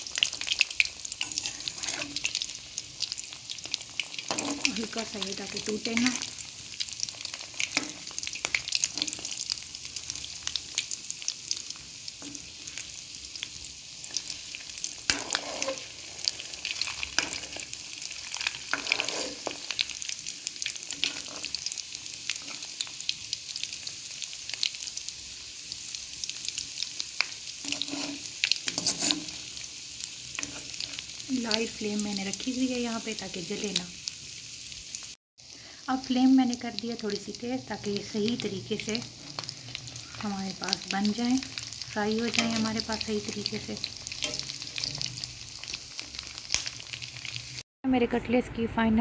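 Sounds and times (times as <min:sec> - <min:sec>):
spatula turning food in oil: 0:00.0 - 0:33.8, 0:36.1 - 0:47.6
cutlets sizzling in hot oil: 0:00.0 - 0:47.6.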